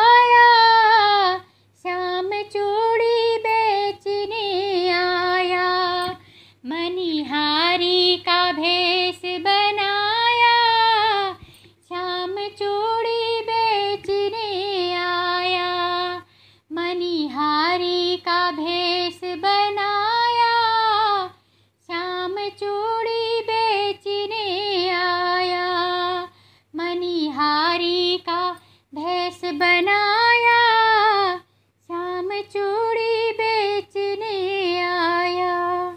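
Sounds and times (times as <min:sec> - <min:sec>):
woman singing unaccompanied: 0:00.0 - 0:35.9.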